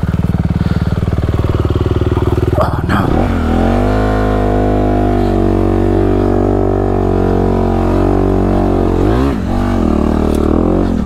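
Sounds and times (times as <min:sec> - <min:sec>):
dirt bike engine droning: 0:00.0 - 0:11.0.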